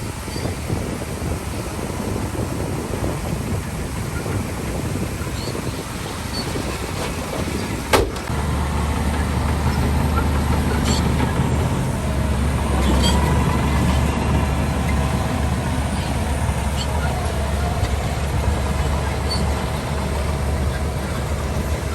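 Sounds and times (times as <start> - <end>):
heavy diesel machinery running: 0.0 - 21.9.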